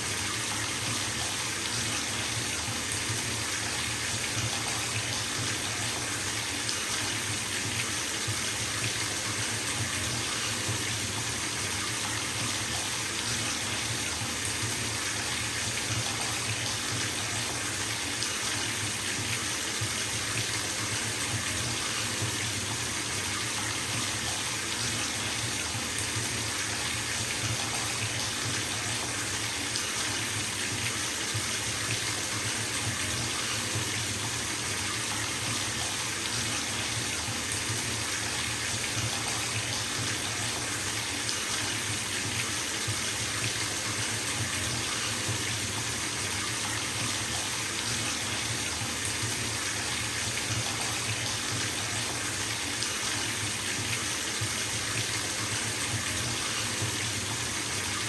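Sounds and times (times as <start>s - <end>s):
water pouring into tub: 0.0s - 58.0s.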